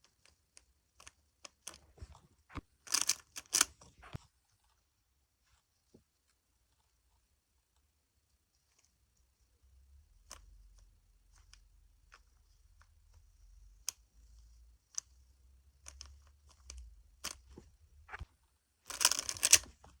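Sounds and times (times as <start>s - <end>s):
puzzle cube being turned by hand: 0.0s - 20.0s.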